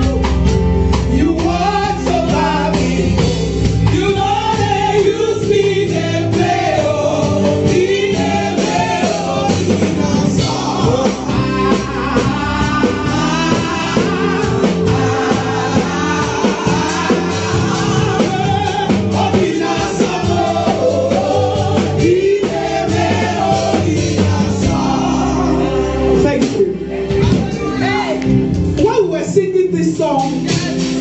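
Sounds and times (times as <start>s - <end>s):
backing singers: 0.0s - 28.7s
band playing gospel music: 0.0s - 31.0s.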